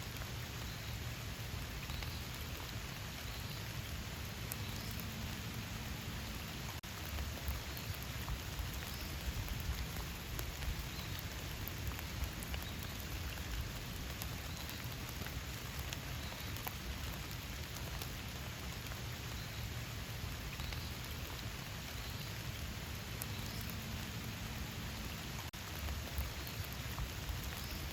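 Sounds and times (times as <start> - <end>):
raindrops ticking: 0.0 - 27.9
steady rain hissing: 0.0 - 27.9.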